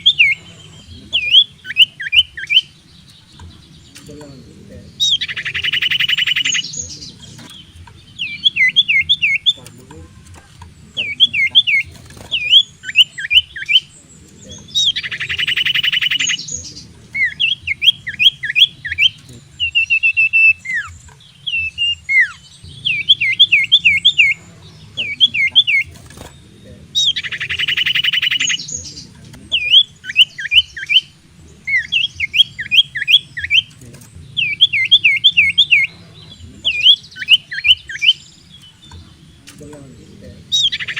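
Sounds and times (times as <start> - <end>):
bird whistling sharp notes: 0.0 - 2.8, 5.0 - 9.7, 11.0 - 26.3, 27.0 - 33.8, 34.4 - 38.8.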